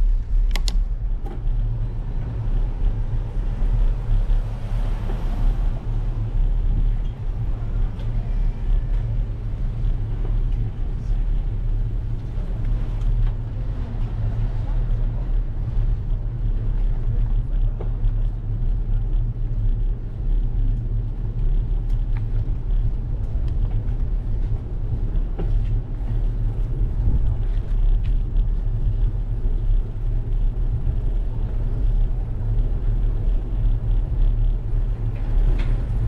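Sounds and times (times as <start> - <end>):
bicycle tyre road noise: 0.0 - 36.0
wind buffeting microphone: 0.0 - 36.0.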